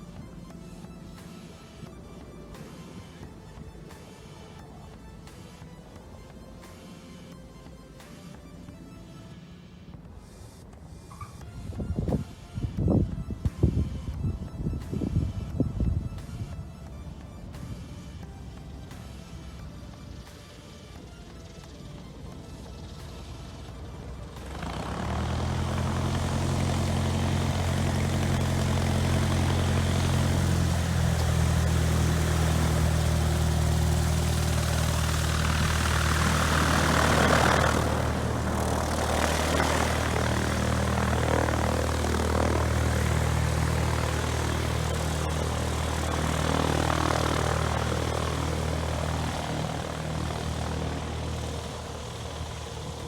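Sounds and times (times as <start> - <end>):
propeller aircraft engine: 0.0 - 53.0.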